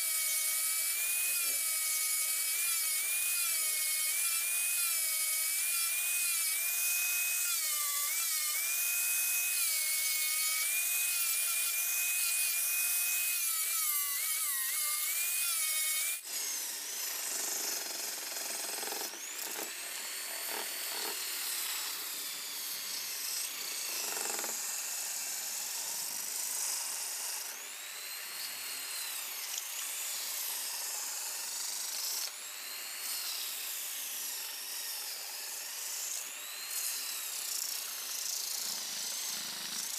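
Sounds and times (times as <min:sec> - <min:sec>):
angle grinder grinding wood: 0:00.0 - 0:39.9
electric drill motor whine: 0:00.0 - 0:39.9.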